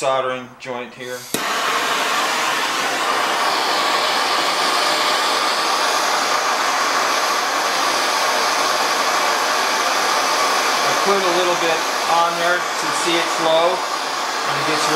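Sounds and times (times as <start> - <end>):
plumbing torch hissing: 1.0 - 14.9.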